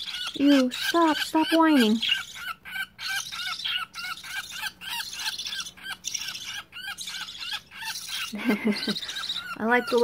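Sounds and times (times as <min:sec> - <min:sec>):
budgerigar chicks whining: 0:00.0 - 0:10.0.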